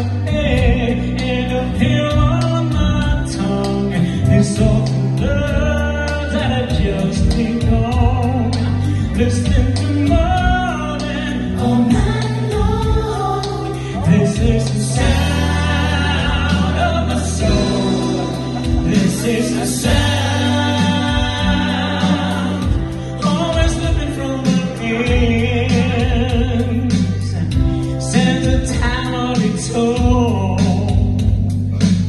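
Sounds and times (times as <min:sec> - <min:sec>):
male trio singing in harmony: 0:00.0 - 0:31.4
backing track with bass line: 0:00.0 - 0:32.0.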